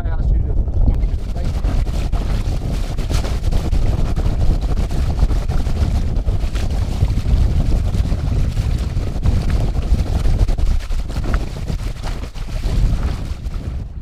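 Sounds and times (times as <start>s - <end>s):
wind buffeting microphone: 0.0s - 14.0s
sea wash: 1.0s - 13.9s.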